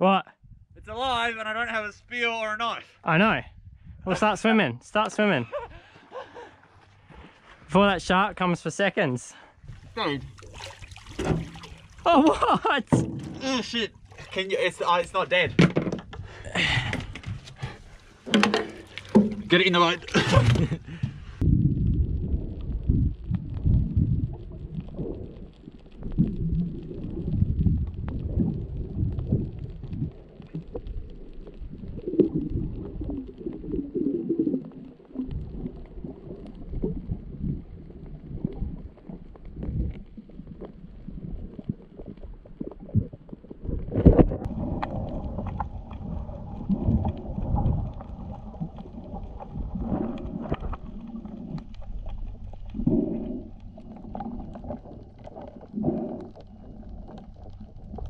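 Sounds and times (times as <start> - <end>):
underwater rumbling and sloshing: 3.5 - 4.2, 9.5 - 58.0.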